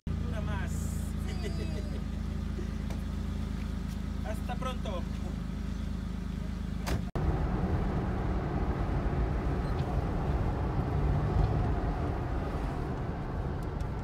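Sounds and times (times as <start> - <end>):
car driving on highway: 0.1 - 14.0.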